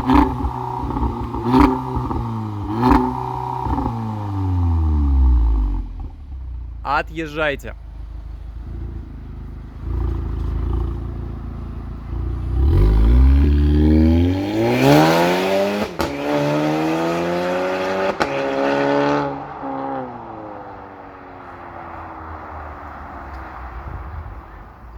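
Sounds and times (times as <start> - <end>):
car exhaust accelerating: 0.0 - 24.9.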